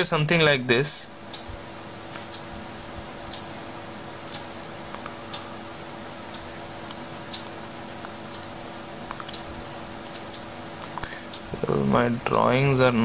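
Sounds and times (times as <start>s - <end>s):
faint ticking: 0.0s - 13.0s.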